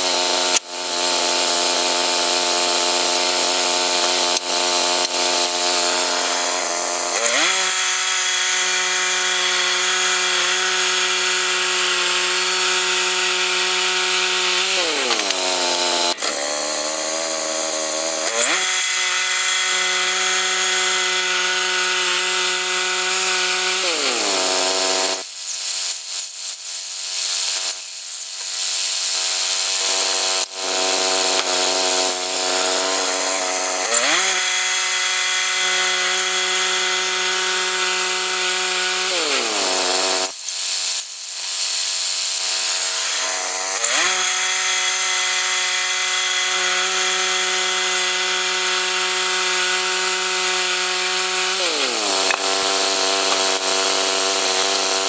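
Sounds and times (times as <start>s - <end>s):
saw engine revving: 0.0s - 25.3s, 29.0s - 40.7s, 42.4s - 55.0s
saw cutting logs: 0.0s - 55.0s.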